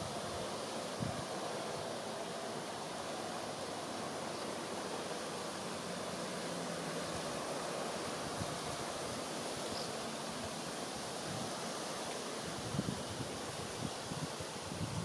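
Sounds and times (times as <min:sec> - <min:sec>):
light wind: 0:00.0 - 0:15.0
water rushing: 0:00.0 - 0:15.0.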